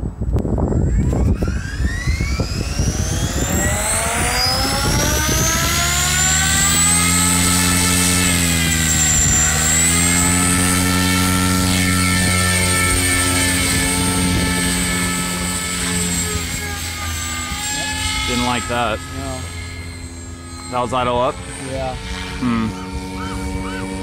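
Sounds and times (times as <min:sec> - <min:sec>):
model helicopter rotor whine: 0:00.0 - 0:24.0
wind noise on microphone: 0:00.0 - 0:24.0.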